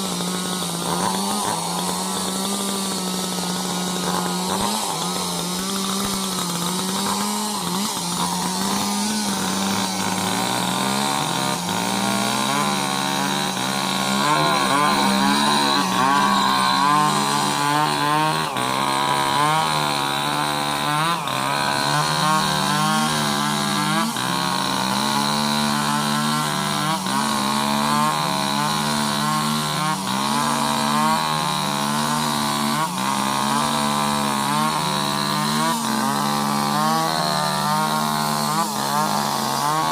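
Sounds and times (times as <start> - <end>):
chainsaws revving and cutting: 0.0 - 39.9.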